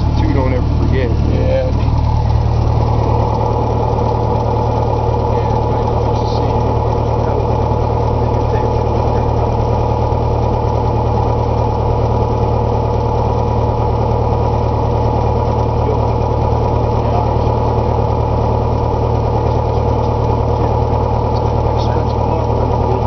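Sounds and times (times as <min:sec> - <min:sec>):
light aircraft engine and propeller: 0:00.0 - 0:23.0.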